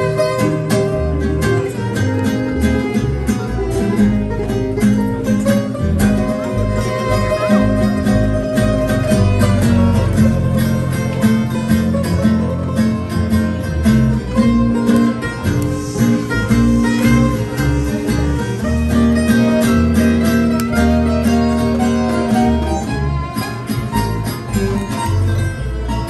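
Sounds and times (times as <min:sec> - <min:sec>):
acoustic guitars strumming chords: 0:00.0 - 0:26.0
upright bass: 0:00.0 - 0:26.0
violin: 0:00.0 - 0:26.0.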